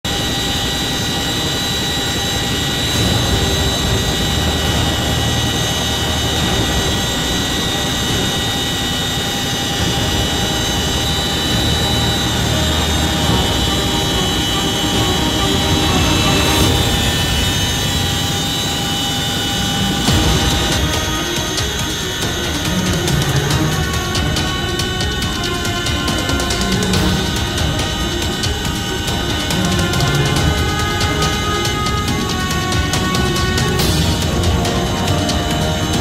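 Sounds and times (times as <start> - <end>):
helicopter cabin noise: 0.0 - 36.0
high whine over low rumble: 0.1 - 36.0.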